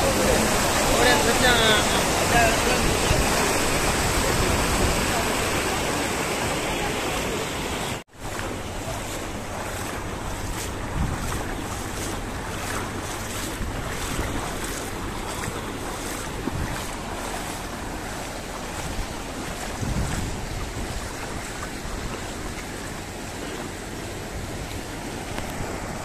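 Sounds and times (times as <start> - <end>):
wind buffeting microphone: 0.0 - 6.1, 8.2 - 26.0
floodwater rushing: 0.0 - 26.0.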